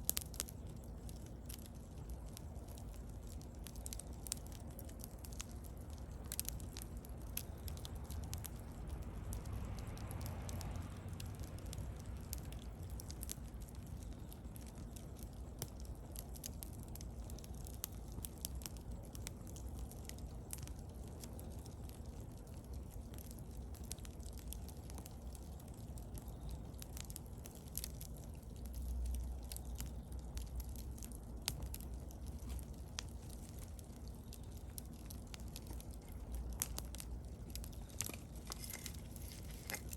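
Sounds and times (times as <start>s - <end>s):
fire low rumble: 0.0s - 39.9s
wood crackling and popping: 0.0s - 39.9s.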